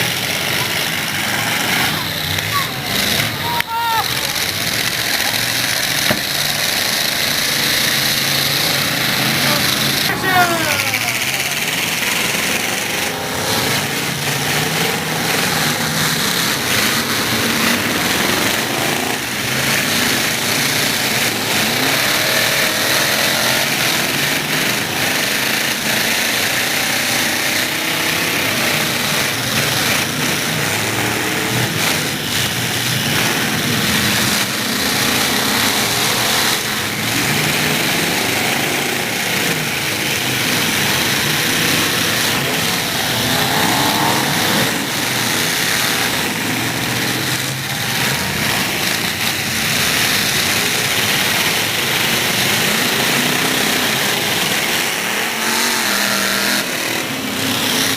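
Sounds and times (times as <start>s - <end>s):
truck engines revving: 0.0s - 57.9s.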